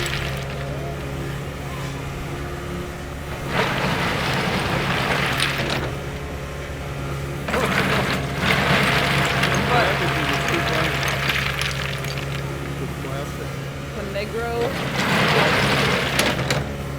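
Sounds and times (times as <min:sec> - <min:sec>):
bucket scraping crushed rock: 0:00.0 - 0:16.9
diesel engine running: 0:00.0 - 0:16.9.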